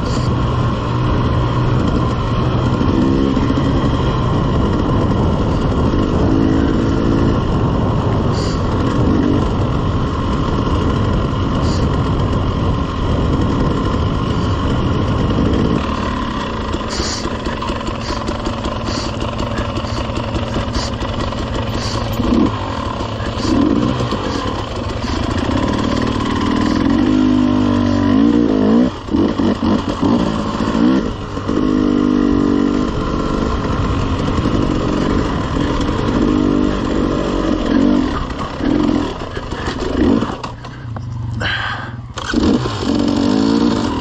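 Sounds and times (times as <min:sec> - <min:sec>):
dirt bike engine running: 0:00.0 - 0:44.0.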